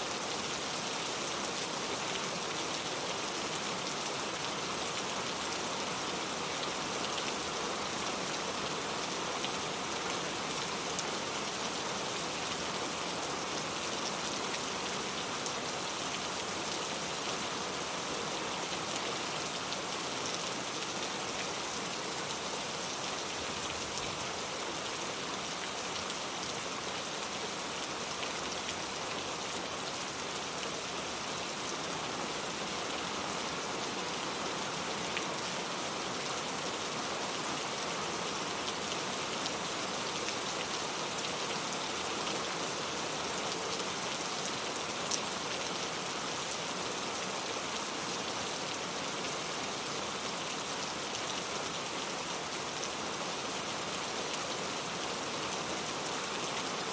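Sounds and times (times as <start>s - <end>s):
steady rain hissing: 0.0s - 56.9s.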